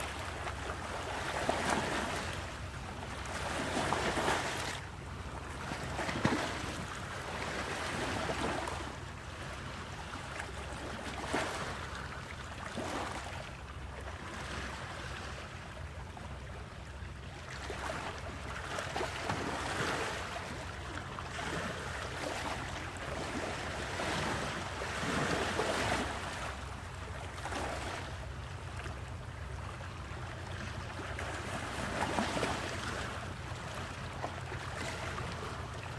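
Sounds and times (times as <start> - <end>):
sea waves breaking: 0.0 - 35.9.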